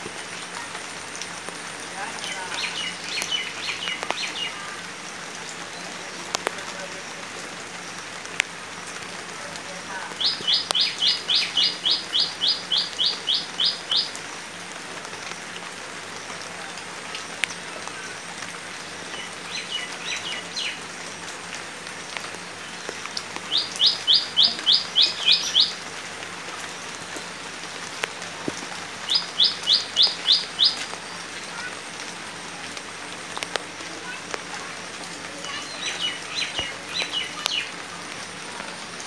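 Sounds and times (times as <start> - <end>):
light rain pattering on water: 0.0 - 39.0.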